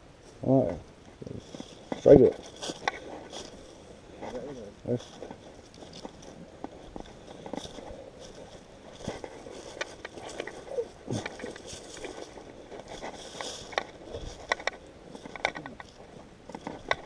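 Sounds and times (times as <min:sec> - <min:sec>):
footsteps crunching on trail: 0:01.0 - 0:17.0.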